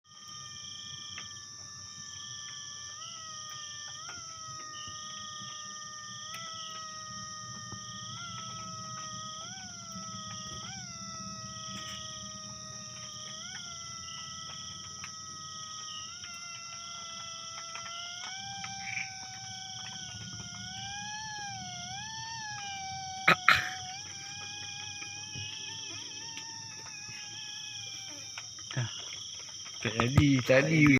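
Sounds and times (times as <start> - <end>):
insects chirping: 0.0 - 30.9
person imitating mosquito whine: 0.1 - 30.9.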